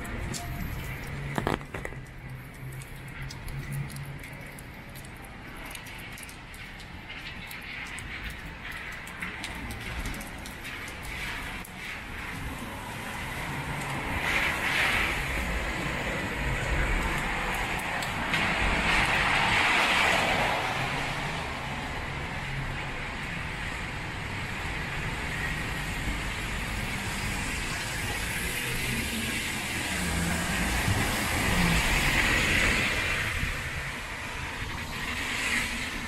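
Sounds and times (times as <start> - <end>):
low rumble of engines: 0.0 - 36.0
tyres hissing on wet pavement: 0.0 - 36.0.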